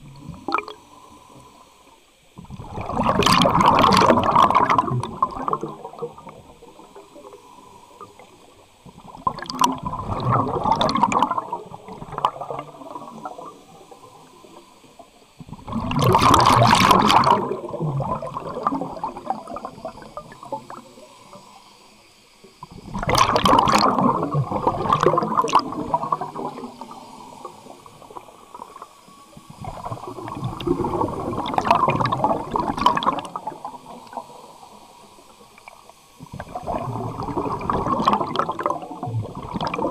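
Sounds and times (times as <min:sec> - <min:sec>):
air bubbles from regulator: 0:00.0 - 0:01.6, 0:02.4 - 0:21.6, 0:22.5 - 0:39.9.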